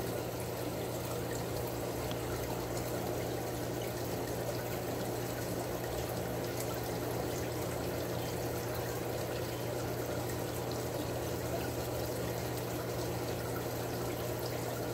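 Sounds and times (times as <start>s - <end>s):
pump humming: 0.0s - 14.9s
water trickling and pouring: 0.0s - 14.9s.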